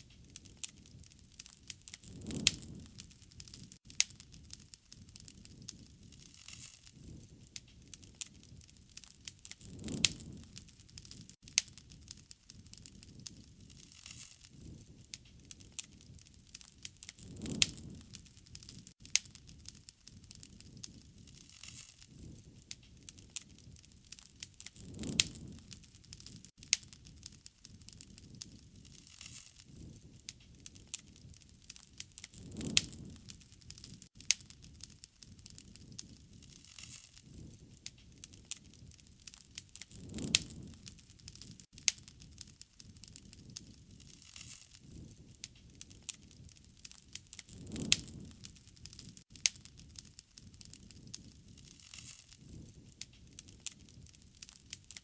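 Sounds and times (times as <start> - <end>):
low rushing of flames: 0.0 - 55.0
wood fire crackling and popping: 0.0 - 55.0.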